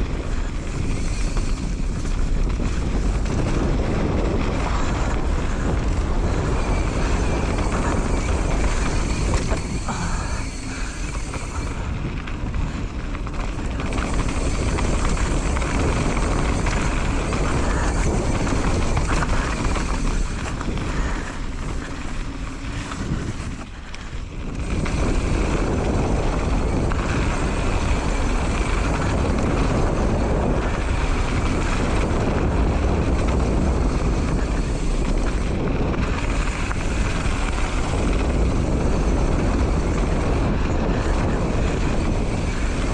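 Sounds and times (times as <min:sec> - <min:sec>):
mountain bike rattling on dirt trail: 0:00.0 - 0:42.9
wind on microphone: 0:00.0 - 0:42.9.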